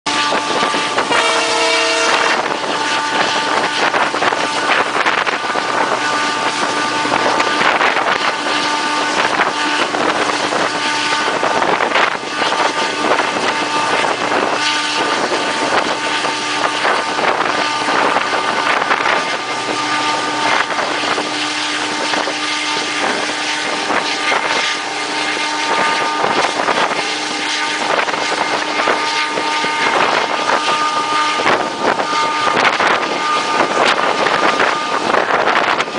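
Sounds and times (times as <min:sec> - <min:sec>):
locomotive turbocharger whine: 0:00.0 - 0:35.9
rushing wind and running noise: 0:00.0 - 0:35.9.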